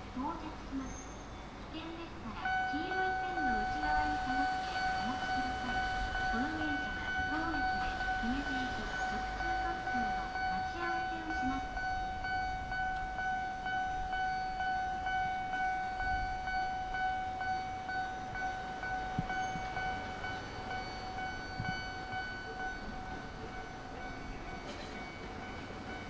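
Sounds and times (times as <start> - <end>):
steady high-pitched tone: 2.2 - 26.0.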